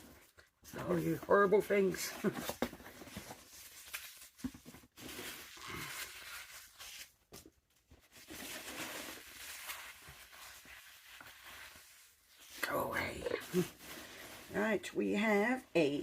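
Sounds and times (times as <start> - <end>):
foam packing peanuts rustling: 0.7 - 7.3, 8.0 - 15.6.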